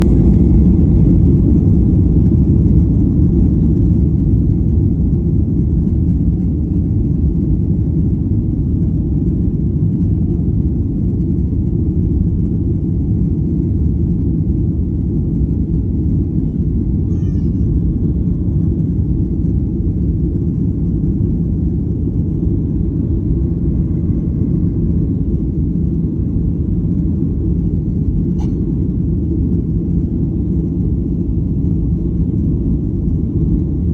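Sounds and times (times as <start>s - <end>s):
jet engine rumble in cabin: 0.0s - 33.9s.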